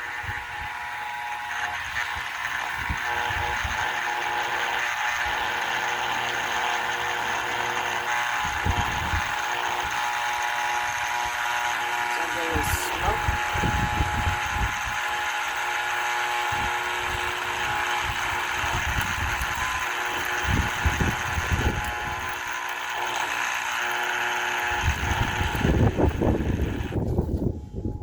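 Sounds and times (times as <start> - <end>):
electric motor whirring with whine: 0.0 - 28.0.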